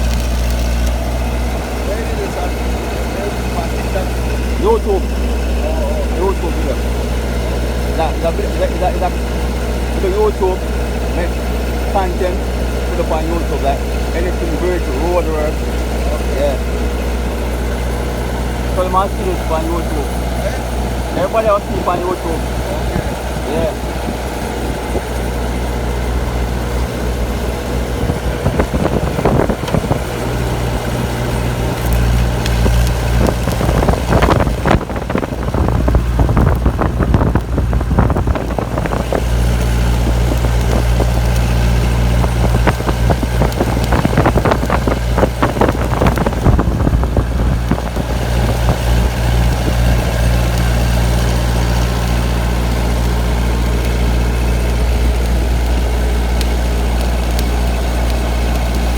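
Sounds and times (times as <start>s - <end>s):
crackling noise: 0.0s - 58.9s
engine humming: 0.0s - 58.9s.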